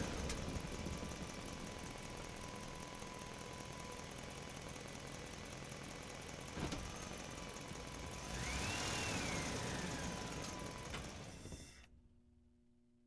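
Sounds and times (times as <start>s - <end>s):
truck engine running: 0.0s - 11.4s.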